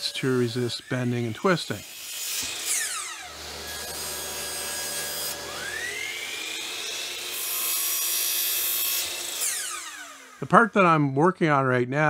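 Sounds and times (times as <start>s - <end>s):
saw blade cutting plywood: 0.0s - 11.1s
miter saw whining: 0.0s - 11.3s.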